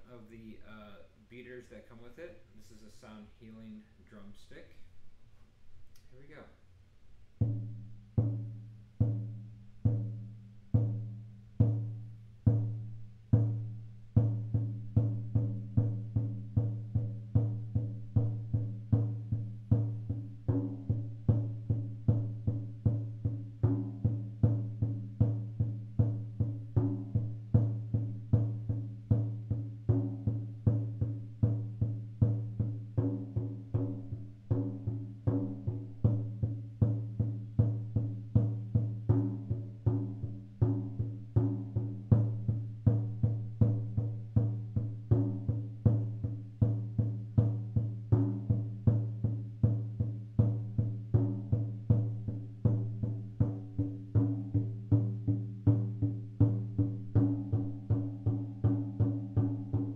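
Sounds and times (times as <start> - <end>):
deep frame drum strokes: 7.2 - 59.9.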